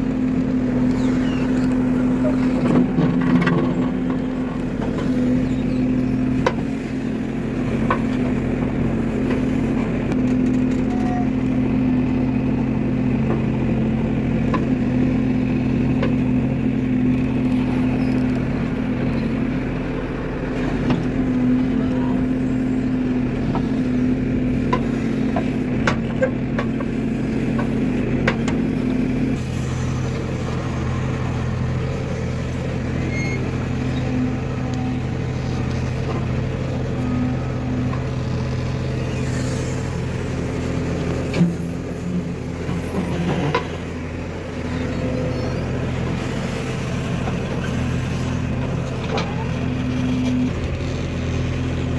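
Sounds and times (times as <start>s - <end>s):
heavy vehicle engine droning: 0.0s - 51.9s.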